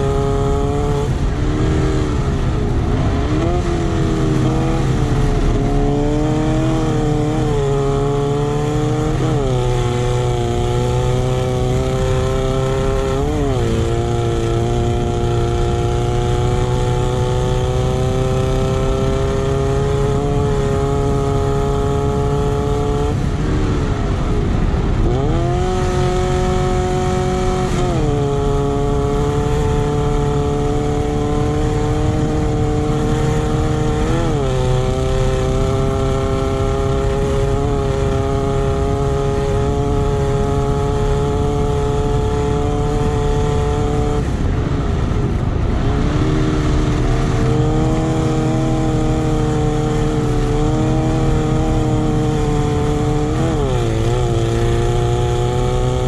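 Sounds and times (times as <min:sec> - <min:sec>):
buggy engine pulling hard: 0:00.0 - 0:56.0
wind rumble: 0:00.0 - 0:56.0.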